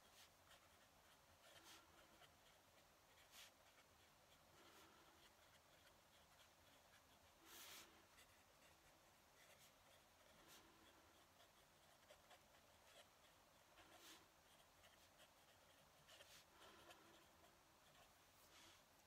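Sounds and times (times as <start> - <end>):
pen nib scratching on paper: 0.0 - 18.9.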